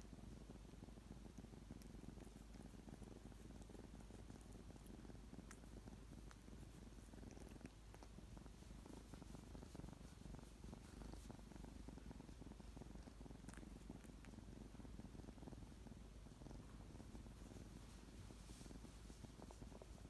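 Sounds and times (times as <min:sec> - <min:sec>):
kitten purring softly: 0:00.0 - 0:20.0.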